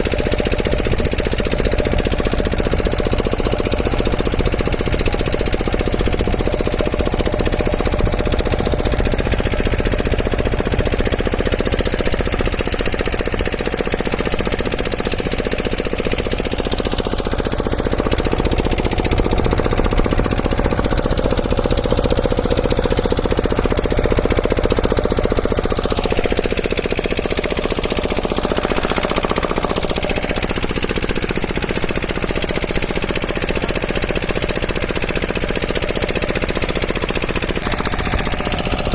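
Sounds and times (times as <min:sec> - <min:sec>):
machine knocking rapidly: 0:00.0 - 0:38.9.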